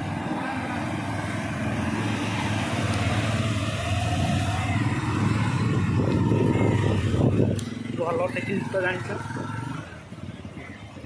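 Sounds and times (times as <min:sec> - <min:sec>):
road noise: 0:00.0 - 0:11.0
motorcycle engine running: 0:01.7 - 0:11.0.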